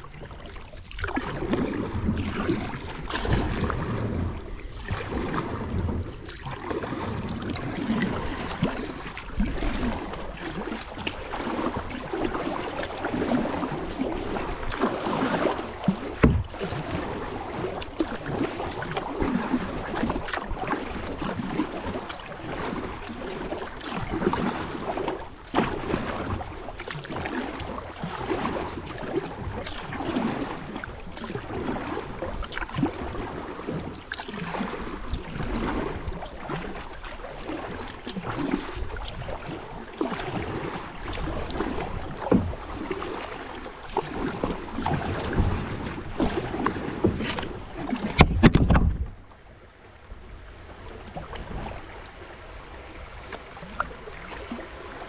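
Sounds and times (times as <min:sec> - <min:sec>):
paddle splashing in water: 0:00.0 - 0:55.0
water lapping at hull: 0:00.0 - 0:55.0.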